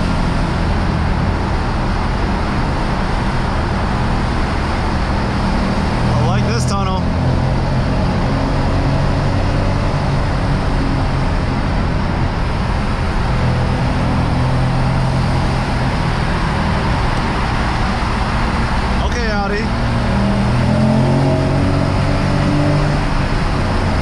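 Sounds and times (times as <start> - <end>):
car engine cruising: 0.0 - 24.0
tyre and road noise: 0.0 - 24.0.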